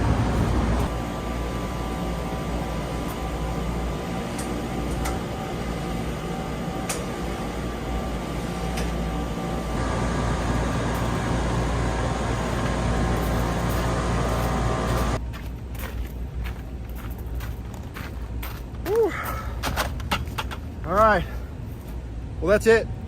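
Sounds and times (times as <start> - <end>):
chiller whirring and humming: 0.0 - 23.0.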